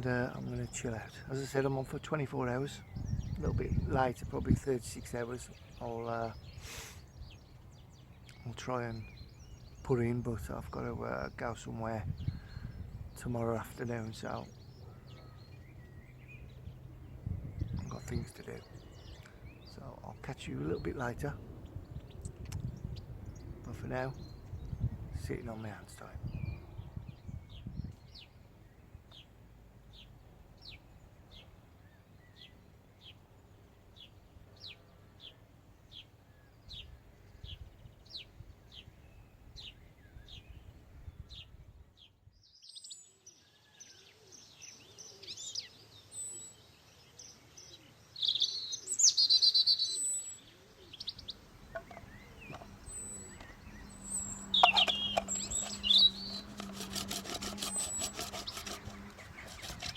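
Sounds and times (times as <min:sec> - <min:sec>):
bird calls: 0:00.0 - 0:29.3, 0:29.9 - 0:59.9.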